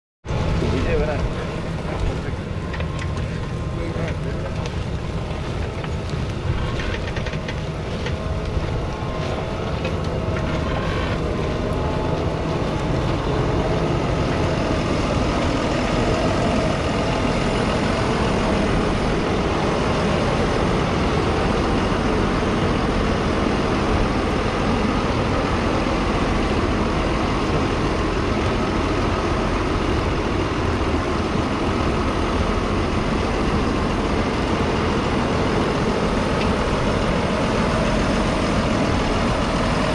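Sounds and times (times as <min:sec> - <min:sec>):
tractor diesel engine under load: 0:00.3 - 0:39.9.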